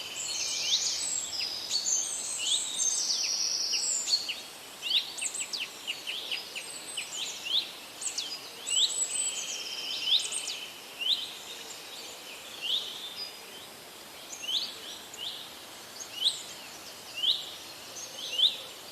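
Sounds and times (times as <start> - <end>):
faint steady hiss: 0.0 - 18.9.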